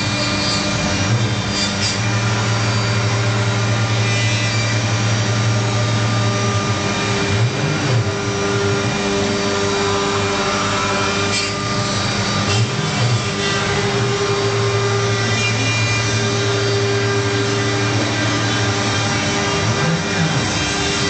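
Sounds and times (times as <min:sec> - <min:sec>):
grinding wood cutting: 0:00.0 - 0:21.0
router machine drone: 0:00.0 - 0:21.0.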